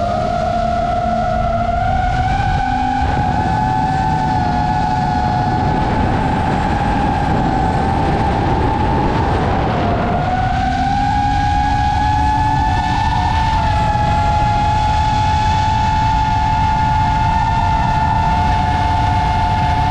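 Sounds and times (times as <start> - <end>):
drone motors whining: 0.0 - 19.9
low rushing noise: 0.0 - 19.9.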